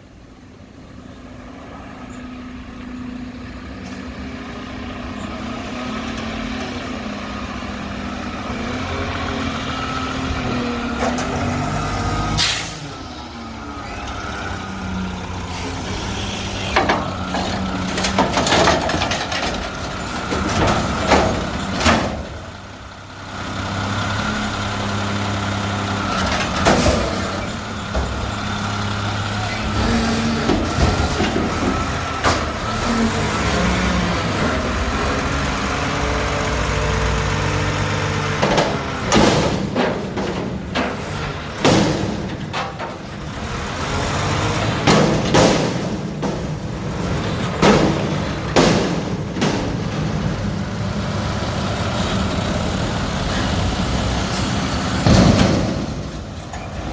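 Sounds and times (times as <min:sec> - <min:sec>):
garbage truck diesel engine: 0:00.0 - 0:56.9.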